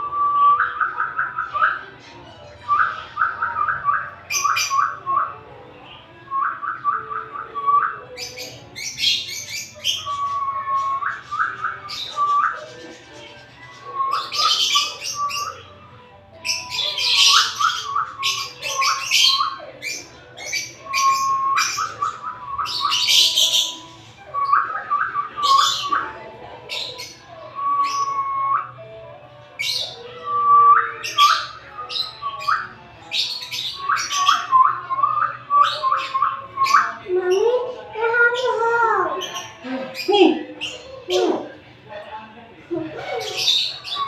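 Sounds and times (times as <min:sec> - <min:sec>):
lovebirds chattering: 0:00.0 - 0:44.0.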